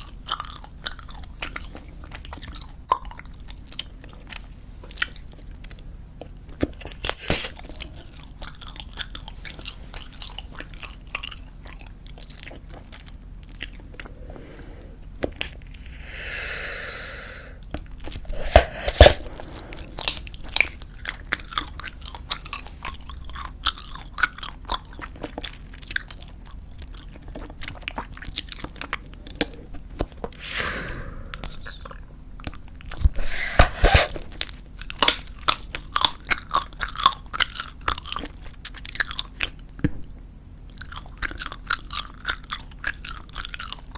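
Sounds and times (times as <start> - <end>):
chewing bubblegum: 0.0 - 16.0, 17.5 - 30.7, 31.3 - 39.9, 40.6 - 43.9.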